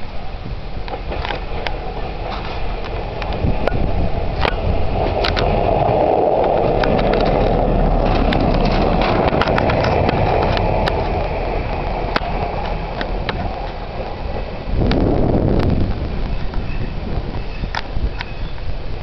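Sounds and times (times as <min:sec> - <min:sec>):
diesel railbus rumble: 0:00.0 - 0:19.0
wheels clicking over rail joints: 0:00.0 - 0:19.0.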